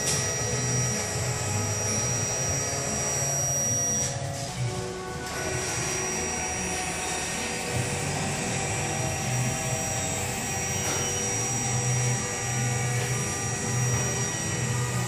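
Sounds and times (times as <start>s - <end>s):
electric actuator motors whining: 0.0s - 15.0s.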